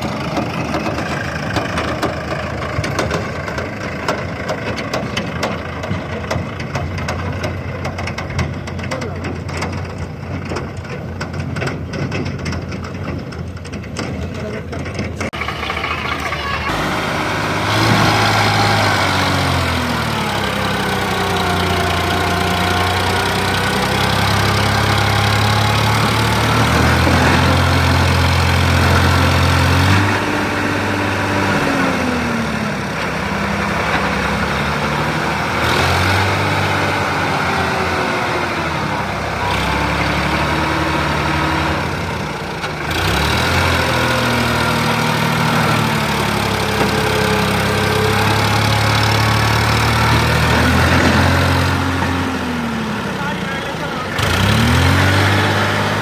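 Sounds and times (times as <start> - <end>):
diesel tractor engine revving: 0.0 - 56.0.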